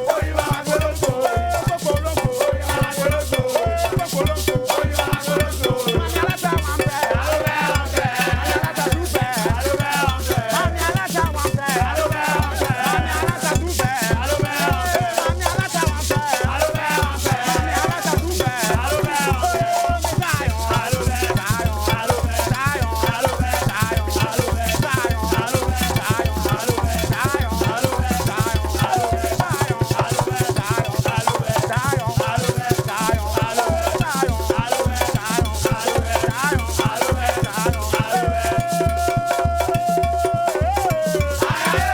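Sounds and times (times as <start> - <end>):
shakers: 0.0 - 41.9
bass drum beat: 3.1 - 29.5, 33.0 - 41.9.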